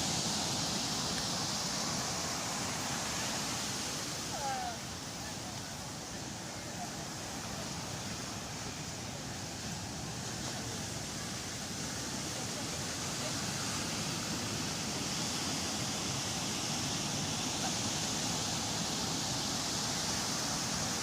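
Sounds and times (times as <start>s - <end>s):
sea waves washing on beach: 0.0s - 21.0s.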